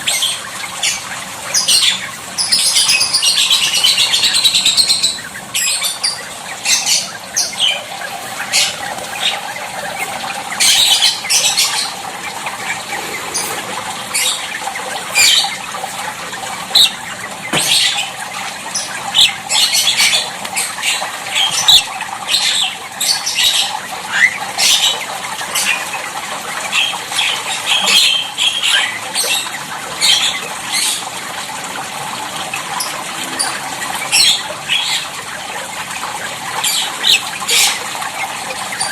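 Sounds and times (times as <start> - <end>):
starling squawking: 0.0 - 31.2, 32.2 - 38.9
water splashing: 0.0 - 38.9.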